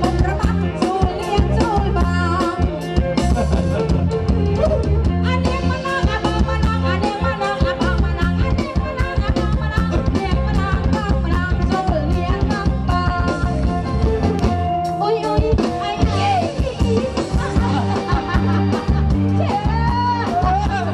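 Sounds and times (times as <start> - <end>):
drum kit dance beat: 0.0 - 20.9
electric guitars: 0.0 - 20.9.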